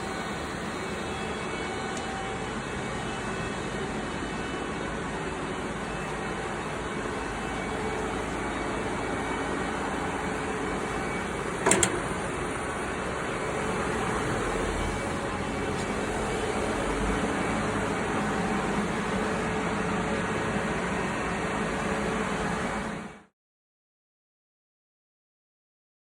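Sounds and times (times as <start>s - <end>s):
mechanical hum: 0.0s - 23.3s.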